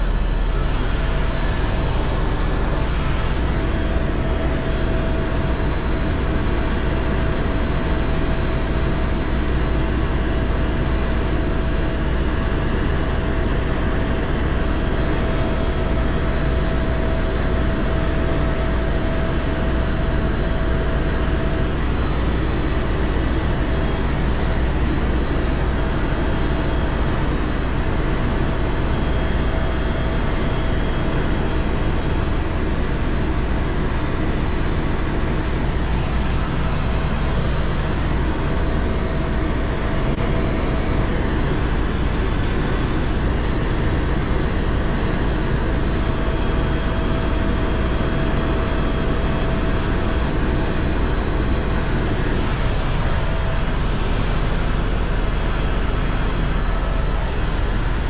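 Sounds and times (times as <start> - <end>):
faint whine: 0.0 - 58.0
helicopter rotor drone: 0.0 - 58.0.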